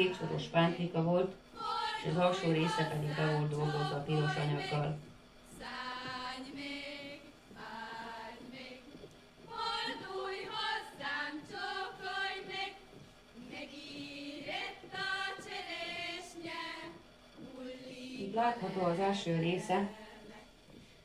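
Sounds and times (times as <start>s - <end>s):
choir singing folk song: 0.0s - 20.5s.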